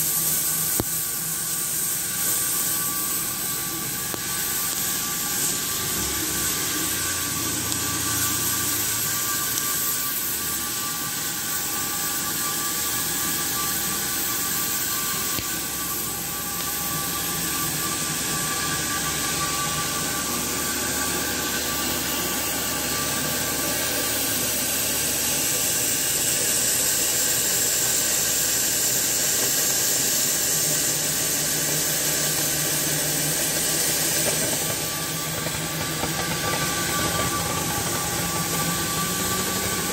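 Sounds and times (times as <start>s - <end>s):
cutting torch gas hiss: 0.0s - 39.9s.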